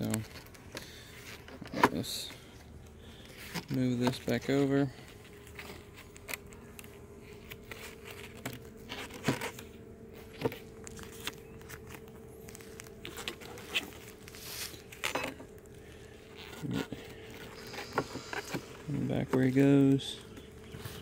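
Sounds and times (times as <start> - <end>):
faint steady hum: 0.0 - 21.0
knocks and scrapes of hive frames: 0.1 - 21.0.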